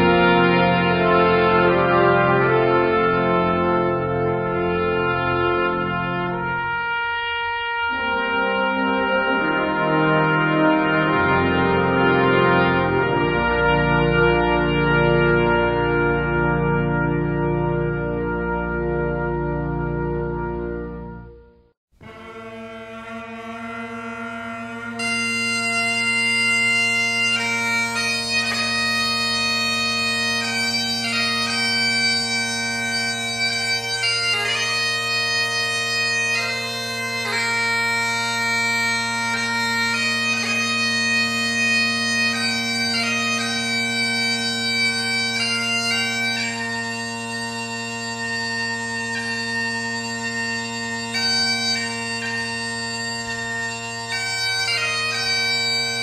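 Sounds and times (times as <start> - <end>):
bagpipes playing: 0.0 - 21.4, 22.0 - 56.0.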